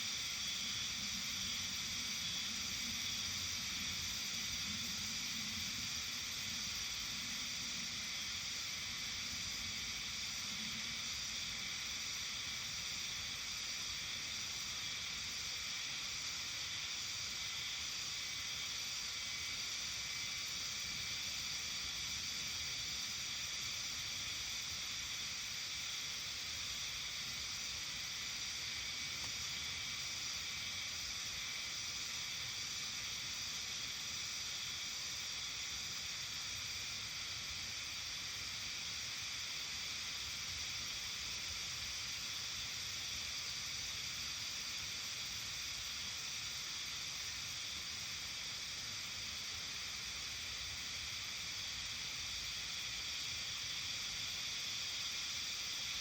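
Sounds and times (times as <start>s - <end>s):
high-pitched hissing chorus: 0.0s - 56.0s.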